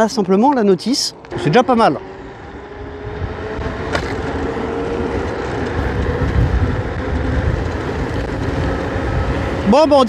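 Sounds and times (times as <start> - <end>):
wind and tyre rumble: 0.0 - 10.0
electric scooter motor whine: 1.2 - 10.0.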